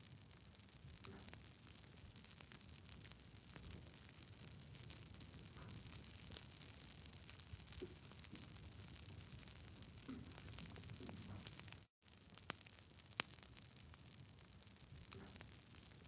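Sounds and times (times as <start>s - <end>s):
campfire crackling: 0.1s - 16.0s.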